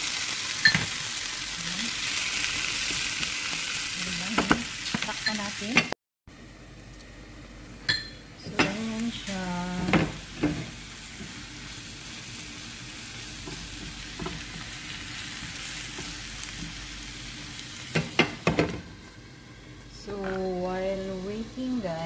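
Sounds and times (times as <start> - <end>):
vegetables sizzling in oil: 0.0 - 5.9, 8.3 - 22.0.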